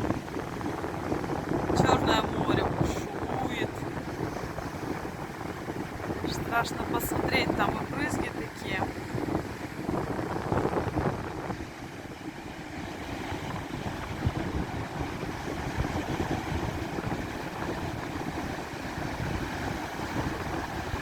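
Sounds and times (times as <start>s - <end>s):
stormy sea surf: 0.0s - 21.0s
wind buffeting microphone: 0.0s - 21.0s.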